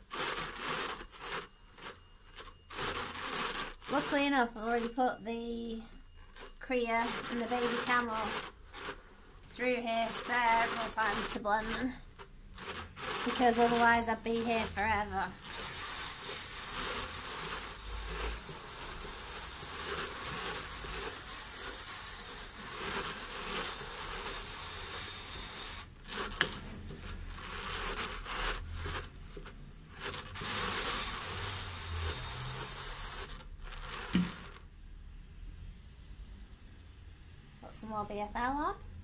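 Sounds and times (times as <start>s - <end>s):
drum carder brushing fibre hiss: 0.0s - 5.0s, 6.2s - 34.6s.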